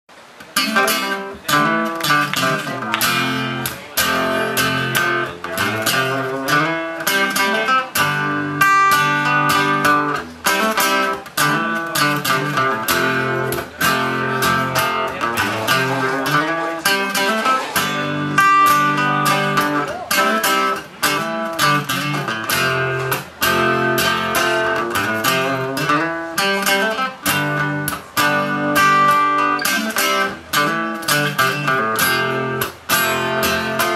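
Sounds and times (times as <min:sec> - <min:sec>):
acoustic guitars strumming: 0:00.2 - 0:33.9.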